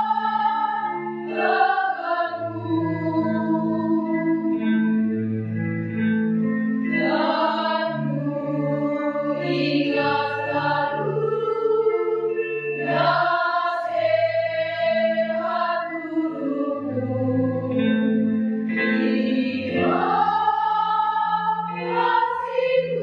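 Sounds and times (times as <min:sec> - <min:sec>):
women's choir singing: 0:00.0 - 0:04.6, 0:07.0 - 0:18.1, 0:18.8 - 0:23.0
low instrumental accompaniment: 0:00.0 - 0:23.0.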